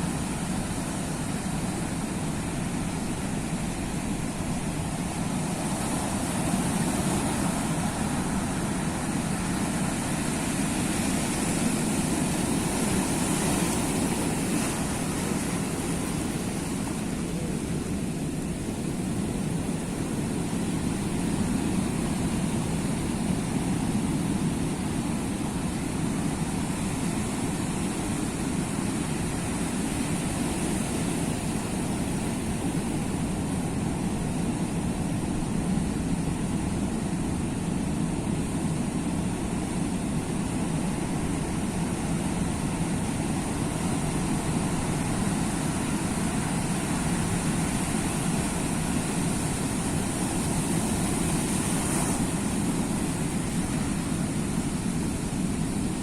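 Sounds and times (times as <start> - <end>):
sea waves rumbling surf: 0.0 - 56.0.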